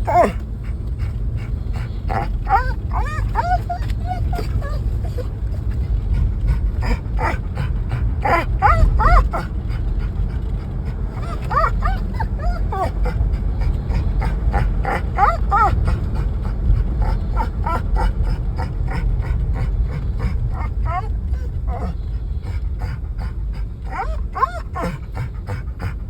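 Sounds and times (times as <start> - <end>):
dog whining and yipping: 0.0 - 26.0
moving car rumble: 0.0 - 26.0.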